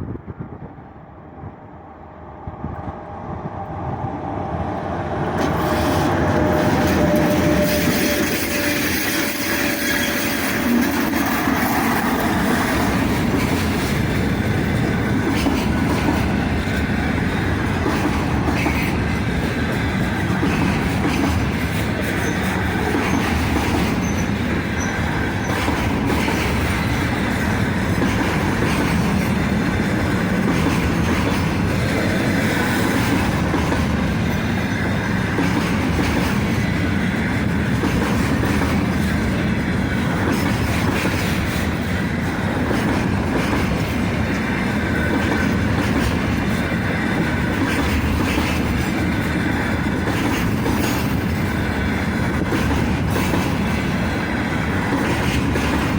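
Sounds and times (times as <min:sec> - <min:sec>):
rumble of train wheels on rails: 0:00.0 - 0:55.9
clacks over rail joints: 0:05.2 - 0:55.9.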